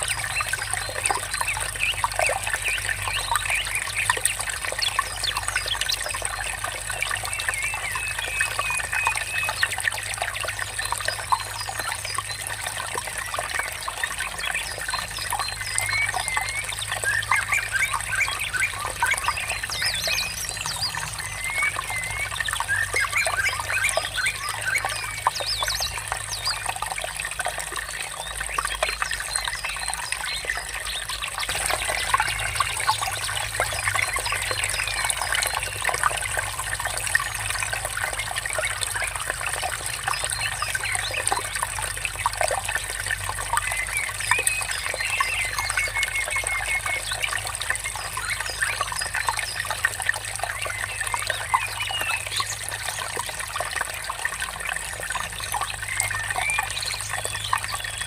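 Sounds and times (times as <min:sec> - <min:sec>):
small birds chirping: 0:00.0 - 0:58.0
water trickling: 0:00.0 - 0:58.0.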